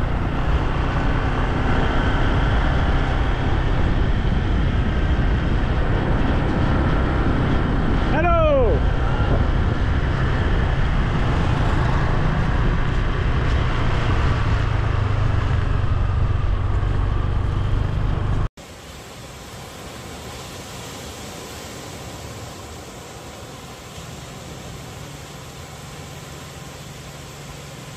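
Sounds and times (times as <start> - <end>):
road traffic rumble: 0.0 - 27.9.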